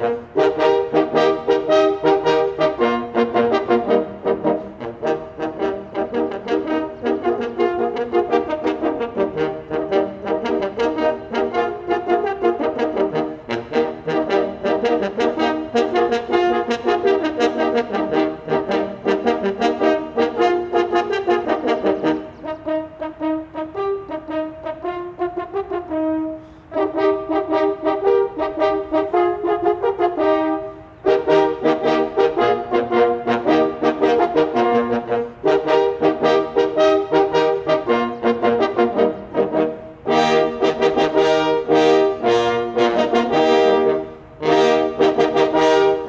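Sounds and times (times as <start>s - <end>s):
horn ensemble playing: 0.0s - 46.0s.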